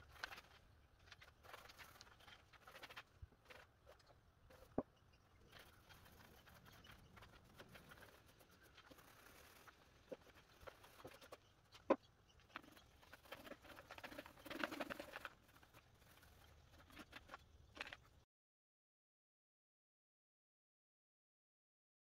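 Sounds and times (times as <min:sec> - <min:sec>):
paint roller crackling: 0:00.0 - 0:18.2.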